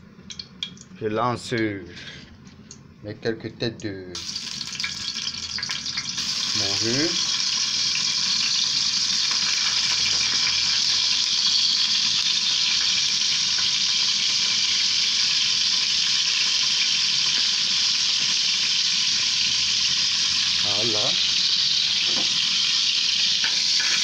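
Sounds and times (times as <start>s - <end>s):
fish frying in oil: 4.2s - 24.0s.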